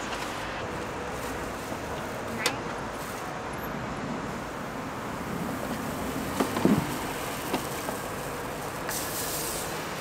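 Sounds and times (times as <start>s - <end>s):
street background noise: 0.0s - 10.0s.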